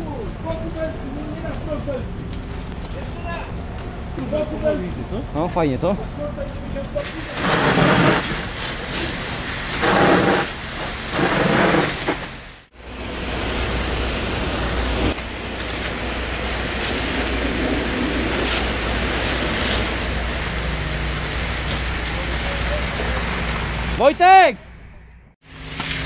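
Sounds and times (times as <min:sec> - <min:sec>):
fire hose spraying water: 0:00.0 - 0:24.4, 0:25.4 - 0:26.0.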